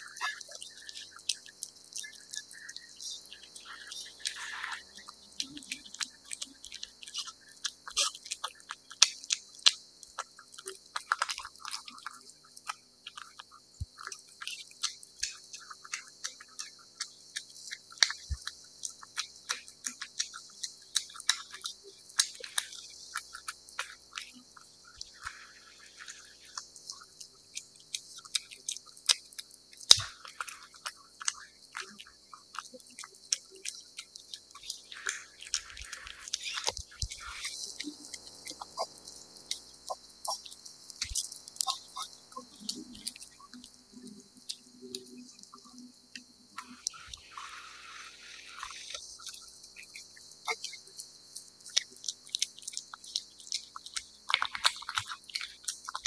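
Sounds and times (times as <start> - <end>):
cat chewing wet food: 0.0 - 56.0.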